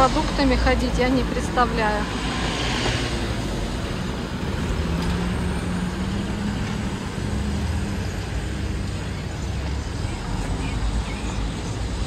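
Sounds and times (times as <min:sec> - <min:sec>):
road noise from passing cars: 0:00.0 - 0:12.0.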